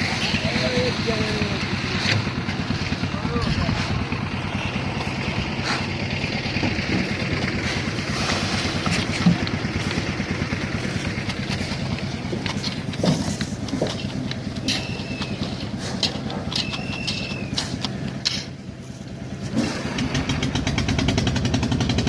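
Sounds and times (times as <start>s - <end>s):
concrete mixer engine running: 0.0s - 22.0s.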